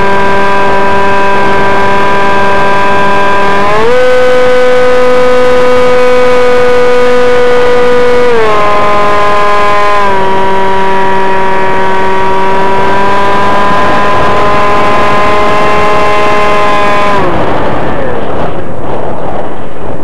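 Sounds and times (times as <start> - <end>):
model airplane motor whining: 0.0 - 18.0.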